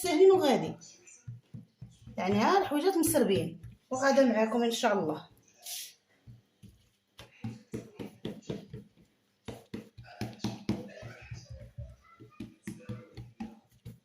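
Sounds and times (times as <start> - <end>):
hands slapping dough: 0.0 - 4.2, 6.1 - 14.0.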